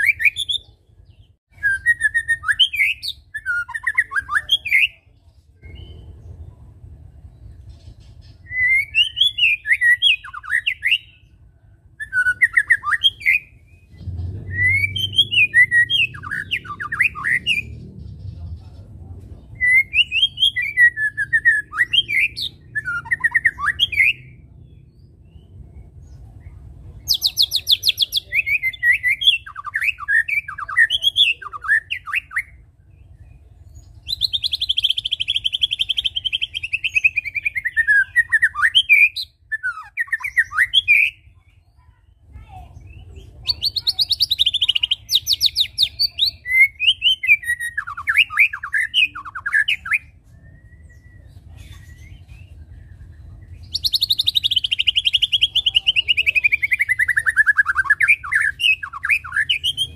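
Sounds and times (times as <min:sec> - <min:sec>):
bird singing whistles and trills: 0:00.0 - 0:06.3, 0:08.0 - 0:17.8, 0:19.5 - 0:26.0, 0:27.1 - 0:41.7, 0:42.8 - 0:59.9.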